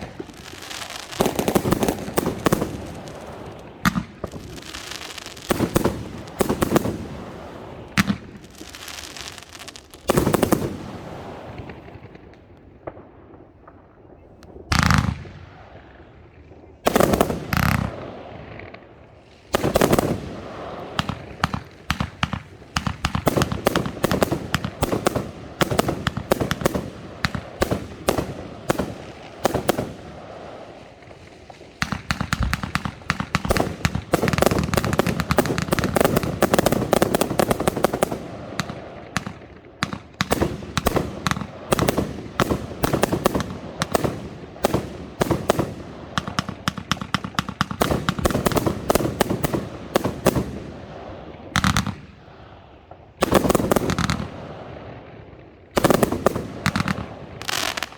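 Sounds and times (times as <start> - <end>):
fireworks bangs and crackling: 0.0 - 57.9.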